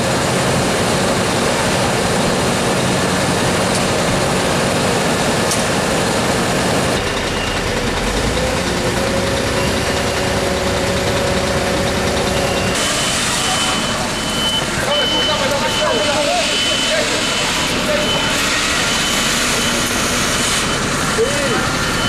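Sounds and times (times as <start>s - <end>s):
diesel engines idling: 0.0s - 22.0s.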